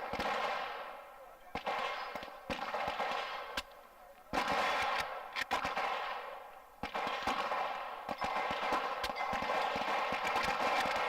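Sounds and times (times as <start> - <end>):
gunshots: 0.0 - 3.7, 4.3 - 11.0.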